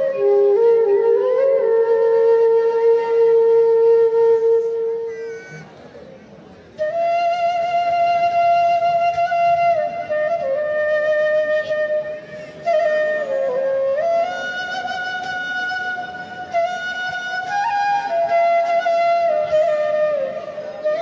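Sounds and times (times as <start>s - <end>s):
flute melody: 0.0s - 5.8s, 6.7s - 21.0s.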